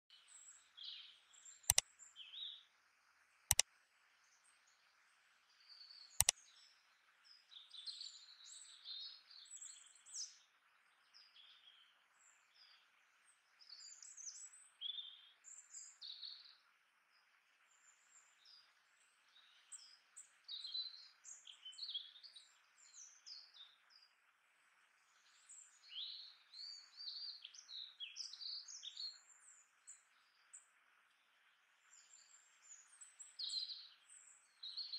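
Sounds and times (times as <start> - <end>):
small birds chirping: 0.1 - 2.7, 5.5 - 24.2, 25.0 - 34.9.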